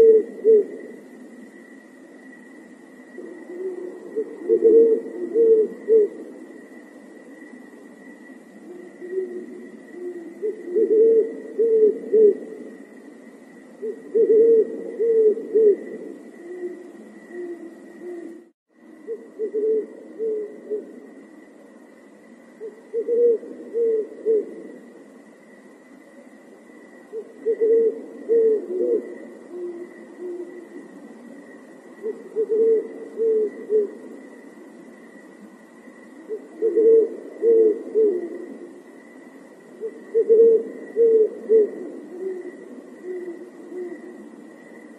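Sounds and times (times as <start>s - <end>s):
owl-like hooting: 0.0s - 21.4s, 22.5s - 25.0s, 26.9s - 44.9s.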